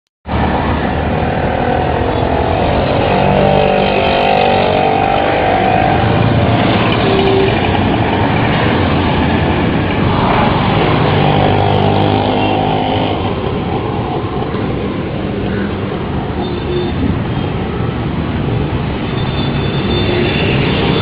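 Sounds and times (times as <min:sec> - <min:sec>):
road traffic passing: 0:00.3 - 0:21.0.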